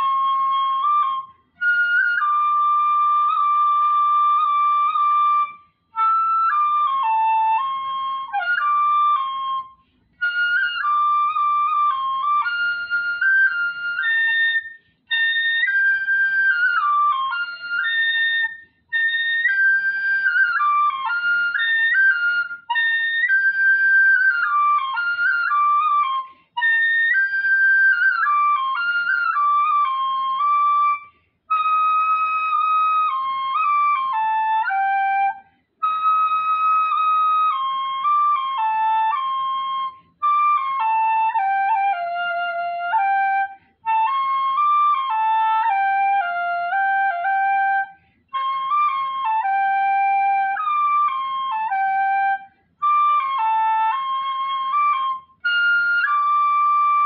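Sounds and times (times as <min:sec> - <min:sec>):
bamboo flute melody: 0:00.0 - 0:57.0.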